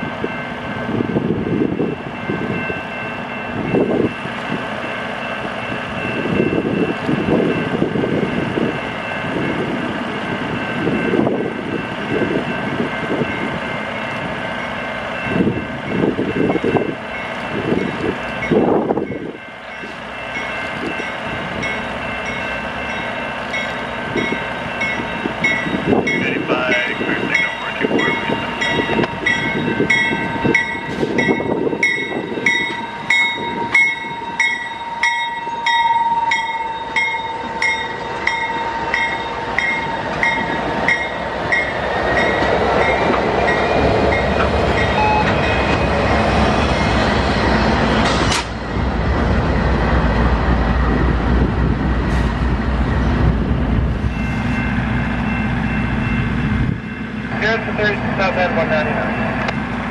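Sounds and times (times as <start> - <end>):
crossing bell dinging: 0.0 - 47.1, 54.0 - 59.6
diesel locomotives passing: 0.0 - 59.9
train rumble: 0.0 - 59.9.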